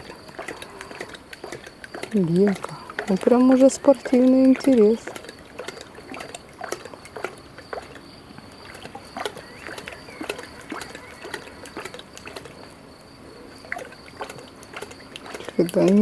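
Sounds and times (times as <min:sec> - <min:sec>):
lion lapping water: 0:00.0 - 0:16.0.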